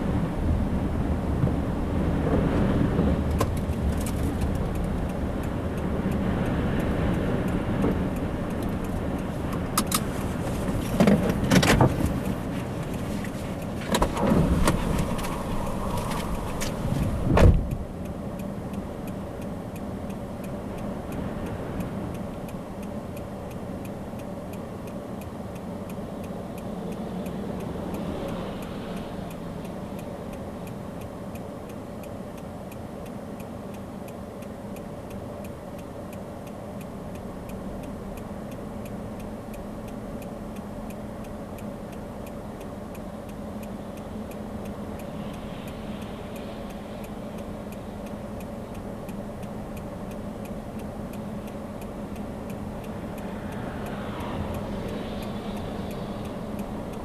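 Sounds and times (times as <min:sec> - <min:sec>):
faint regular ticking: 0:02.3 - 0:57.0
vehicle engine idling: 0:07.0 - 0:57.0.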